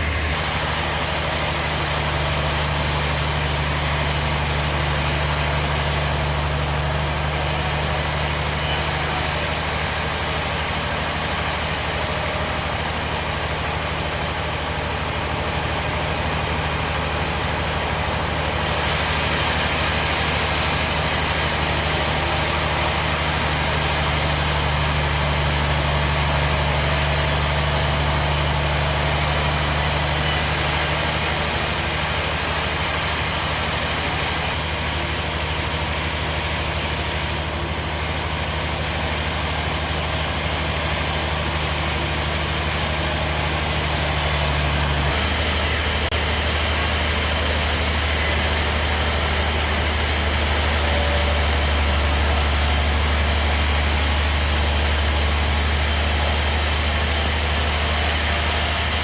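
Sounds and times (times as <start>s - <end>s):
saw hiss: 0.0s - 14.1s, 14.7s - 59.0s
sawmill motor hum: 0.0s - 59.0s.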